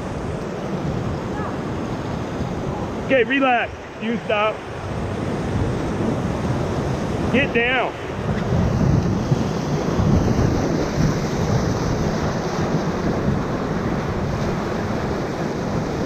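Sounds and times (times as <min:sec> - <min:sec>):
rapids rushing and crashing: 0:00.0 - 0:16.0
wind buffeting microphone: 0:00.0 - 0:16.0.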